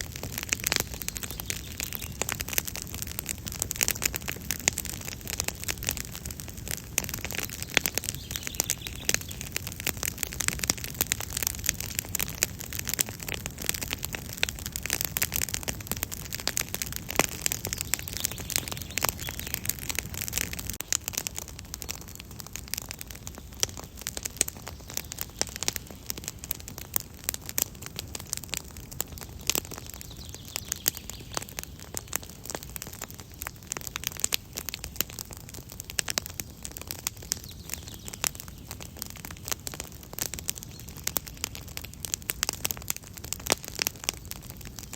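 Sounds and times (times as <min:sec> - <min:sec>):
campfire crackling and popping: 0:00.0 - 0:44.9
low rushing of flames: 0:00.0 - 0:44.9.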